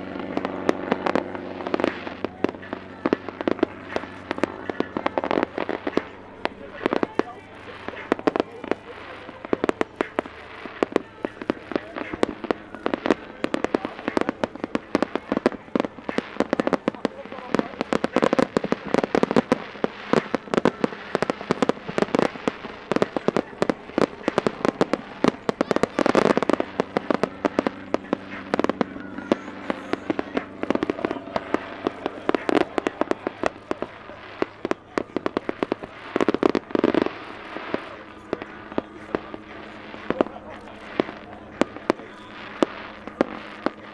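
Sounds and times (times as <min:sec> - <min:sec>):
pyrotechnics crackling and popping: 0:00.0 - 0:43.9
steady low hum: 0:00.0 - 0:43.9.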